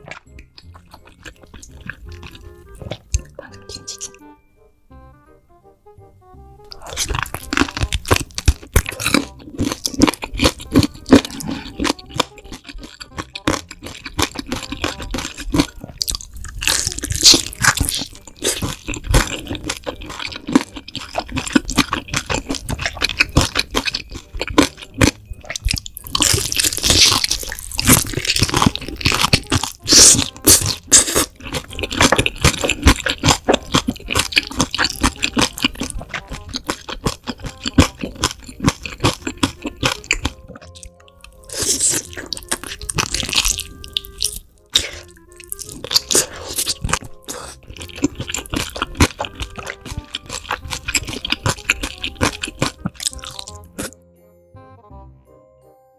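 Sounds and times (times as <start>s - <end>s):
crunchy chewing of fried chicken: 0.0s - 4.2s, 6.7s - 54.0s.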